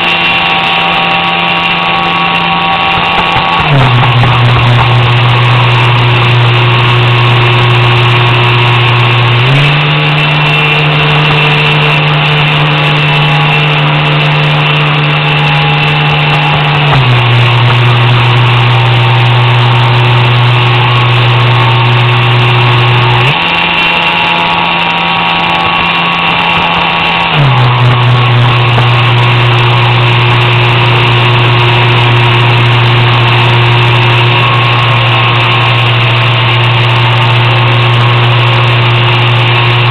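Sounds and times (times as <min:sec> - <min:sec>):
electric motor humming whine: 0:00.0 - 0:39.9.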